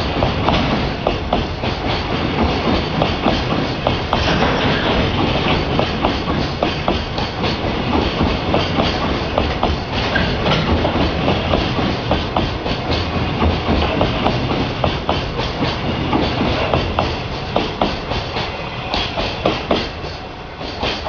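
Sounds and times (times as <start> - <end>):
train wheels clattering over rail joints: 0.0 - 21.0.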